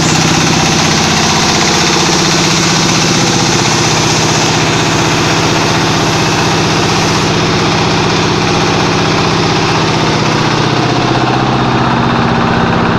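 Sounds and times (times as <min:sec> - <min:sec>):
machine humming with fast pulsing: 0:00.0 - 0:12.9.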